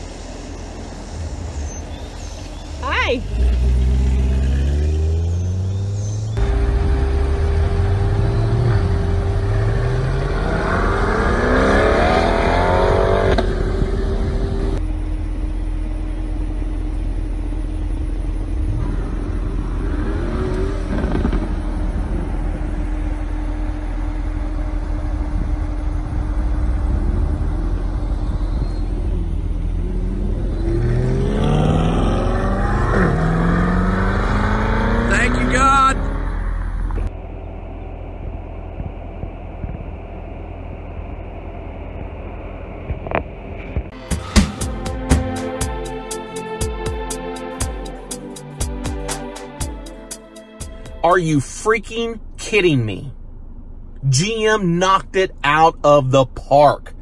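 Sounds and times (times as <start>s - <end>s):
low rumble: 0.0s - 35.3s, 36.0s - 46.0s, 49.6s - 57.0s
car engine accelerating: 0.0s - 57.0s.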